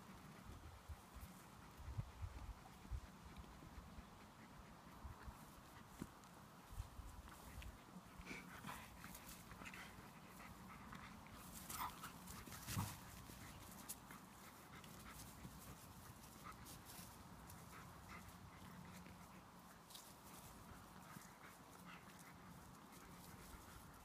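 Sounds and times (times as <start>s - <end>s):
dogs panting: 0.0s - 24.0s.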